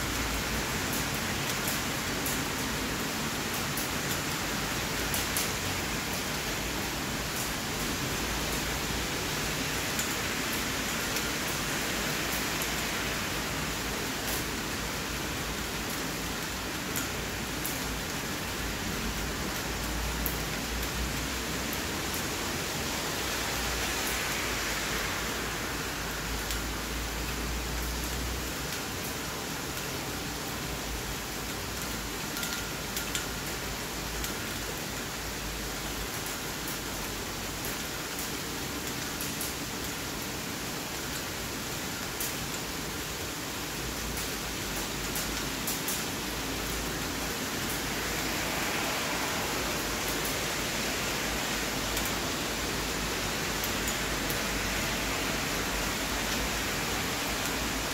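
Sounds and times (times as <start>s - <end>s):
rain falling on pavement: 0.0s - 57.9s.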